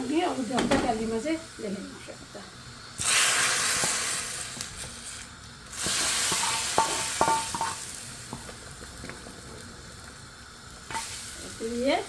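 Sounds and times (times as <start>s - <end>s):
hot oil sizzling in a pot: 0.0s - 12.0s.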